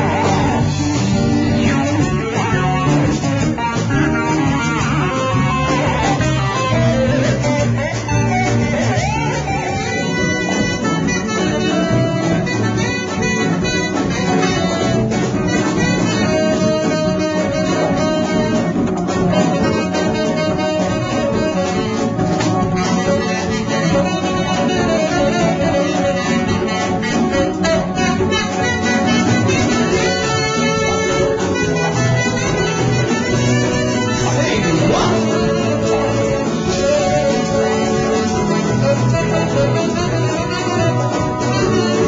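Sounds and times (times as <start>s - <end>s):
drum kit: 0.0s - 42.0s
electric guitar: 0.0s - 42.0s
keyboard: 0.0s - 42.0s
saxophone: 0.0s - 42.0s
trombone: 0.0s - 42.0s.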